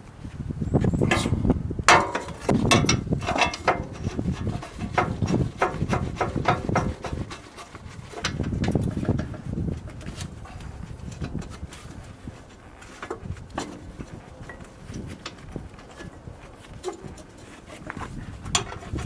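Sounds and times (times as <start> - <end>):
metal clinks and knocks: 0.8 - 19.0.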